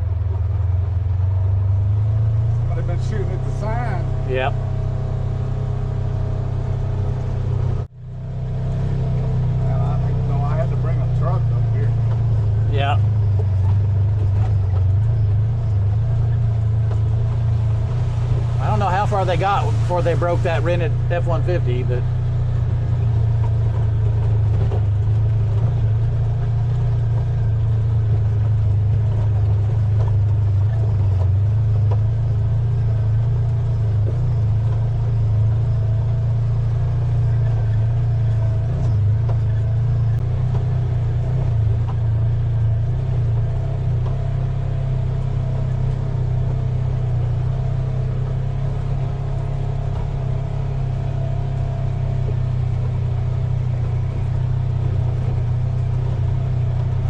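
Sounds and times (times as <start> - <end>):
utility vehicle engine droning: 0.0 - 57.0.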